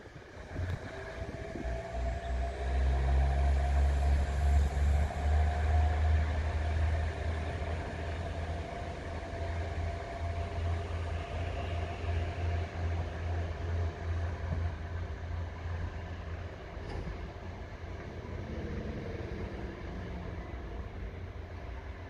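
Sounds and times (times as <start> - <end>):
diesel engine rumble: 0.0 - 22.0.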